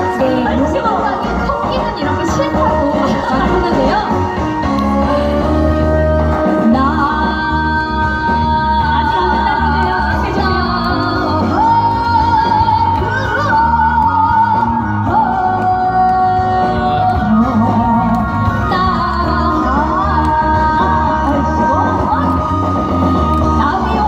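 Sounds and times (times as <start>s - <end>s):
steady backing beat: 0.0s - 24.0s.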